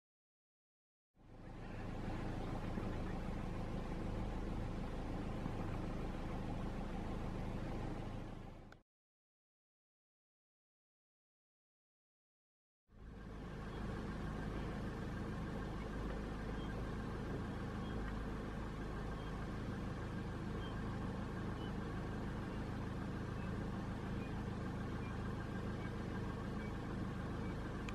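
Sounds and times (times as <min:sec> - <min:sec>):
vehicle engine idling: 0:01.2 - 0:08.8, 0:12.9 - 0:27.9.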